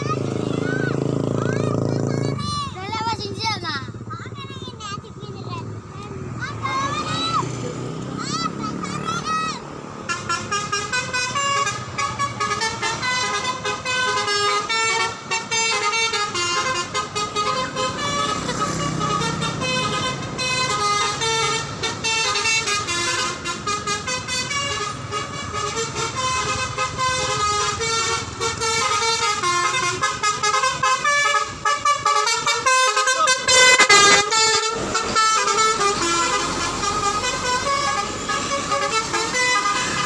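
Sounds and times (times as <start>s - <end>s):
multi-tone bus horn melody: 6.7s - 40.0s.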